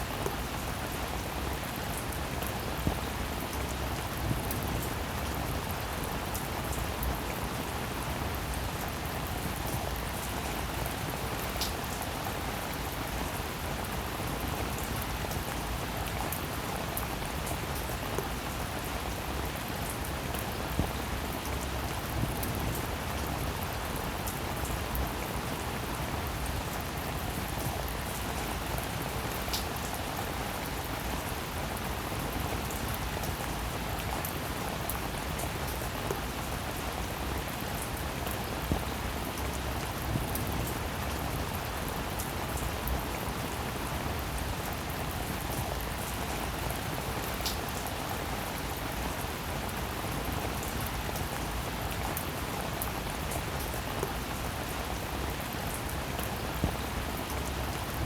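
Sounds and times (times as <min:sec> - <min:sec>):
dense rainfall: 0:00.0 - 0:58.0.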